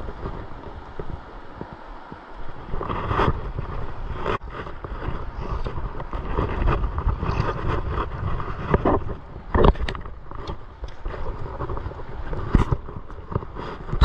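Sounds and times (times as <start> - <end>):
fast river rushing: 0.0 - 14.0
wind buffeting microphone: 0.0 - 14.0.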